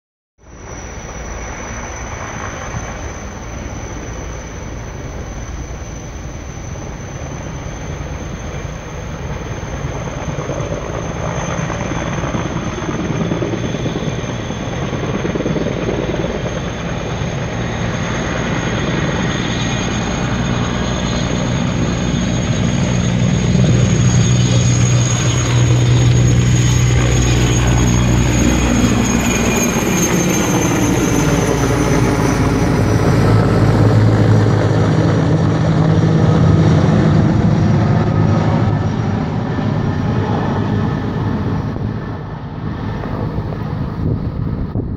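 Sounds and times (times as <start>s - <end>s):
helicopter rotor noise: 0.4s - 44.9s
helicopter turbine whine: 0.4s - 44.9s.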